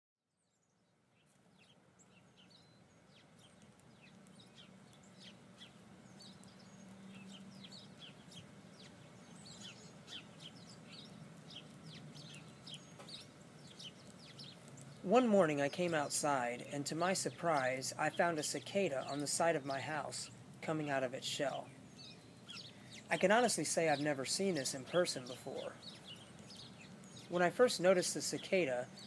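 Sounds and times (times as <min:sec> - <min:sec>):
bird chirps and calls: 0:00.4 - 0:29.0
steady low hum: 0:00.6 - 0:29.0.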